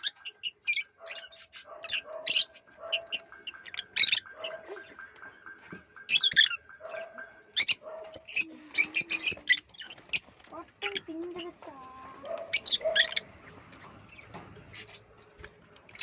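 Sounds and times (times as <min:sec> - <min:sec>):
parakeets squawking and chirping: 0:00.0 - 0:16.0.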